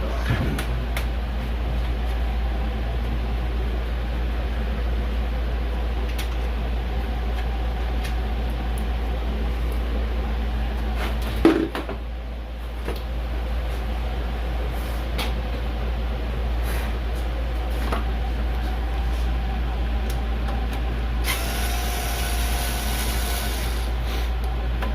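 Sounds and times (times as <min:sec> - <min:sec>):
low hum: 0:00.0 - 0:24.9.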